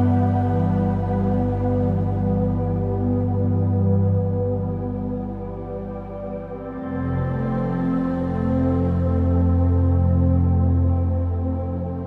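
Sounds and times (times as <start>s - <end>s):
ambient synthesizer pads: 0.0s - 12.0s.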